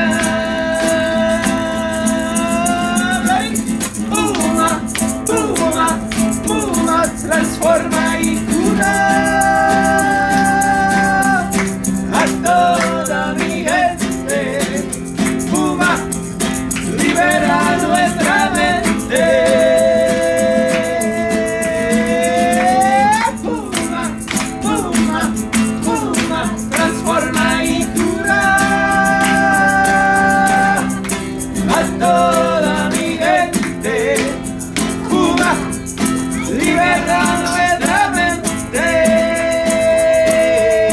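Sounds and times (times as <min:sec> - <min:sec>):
maraca shaking: 0:00.0 - 0:40.9
strummed classical guitar: 0:00.0 - 0:40.9
two men singing: 0:00.0 - 0:40.9.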